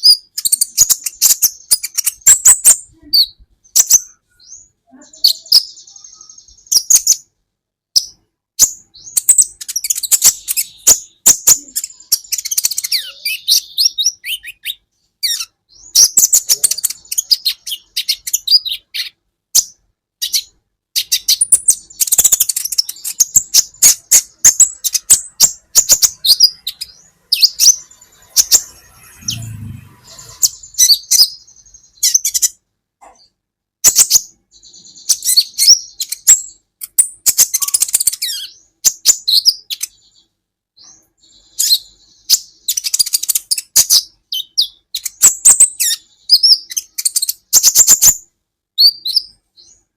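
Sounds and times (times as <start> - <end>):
bird chirping and twittering: 0.0 - 49.9.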